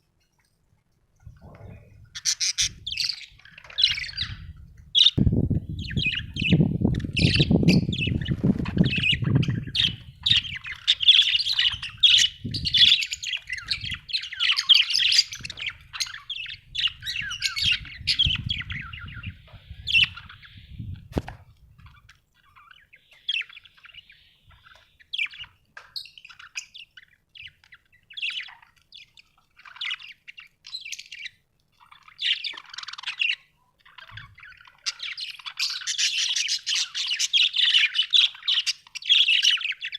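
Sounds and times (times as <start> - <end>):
budgerigars chirping and chattering: 1.3 - 21.1, 21.8 - 39.9.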